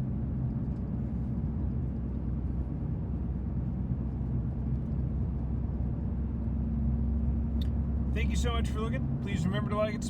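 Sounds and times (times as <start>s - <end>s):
engine and road hum in cab: 0.0s - 10.0s.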